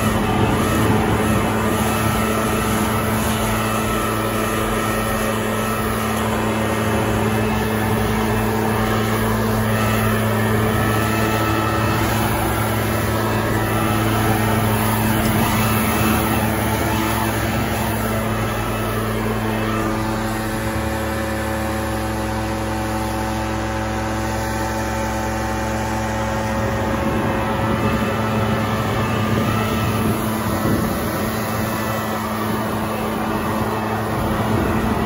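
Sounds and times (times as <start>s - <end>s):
leaf blower running: 0.0s - 35.0s.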